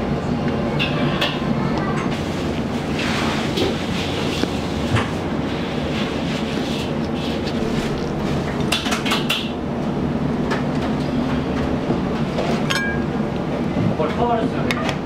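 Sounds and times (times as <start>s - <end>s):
wok burner roaring: 0.0s - 15.0s.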